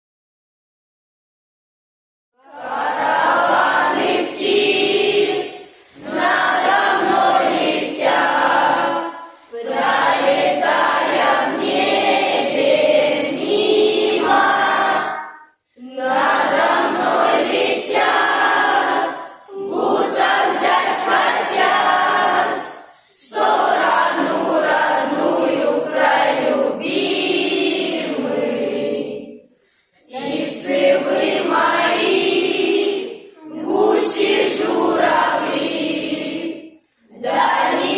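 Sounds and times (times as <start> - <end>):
choir singing: 2.4 - 37.9.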